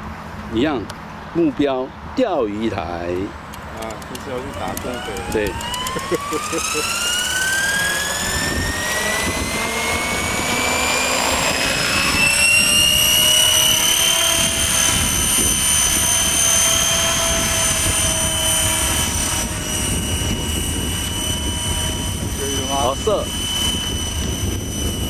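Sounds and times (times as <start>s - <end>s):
model helicopter rotor whining: 2.5s - 25.0s.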